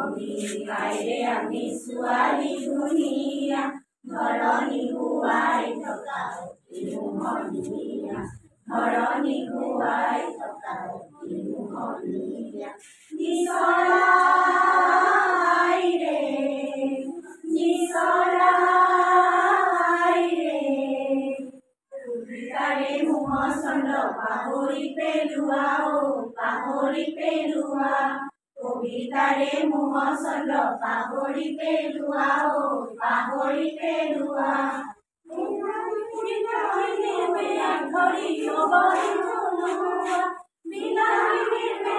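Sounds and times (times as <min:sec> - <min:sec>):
women and girls singing: 0:00.0 - 0:41.9.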